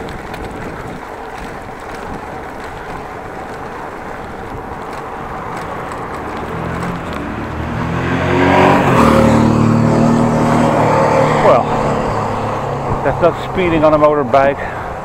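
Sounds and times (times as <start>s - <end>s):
wind noise on microphone: 0.0s - 15.0s
motorcycle engine accelerating: 1.8s - 14.0s.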